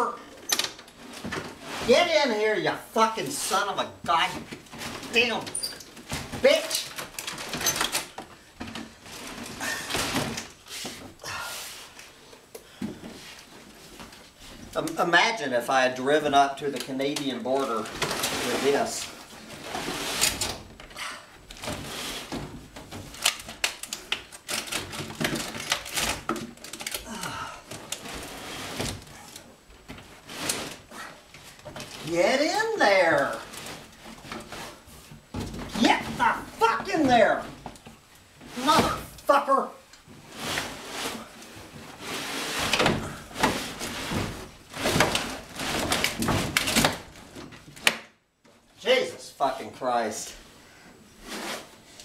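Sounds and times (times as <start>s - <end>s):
belongings clicking and knocking: 0.0s - 11.2s, 15.8s - 40.7s, 41.3s - 48.6s
rustling: 0.0s - 15.1s, 16.0s - 48.9s, 50.2s - 52.0s.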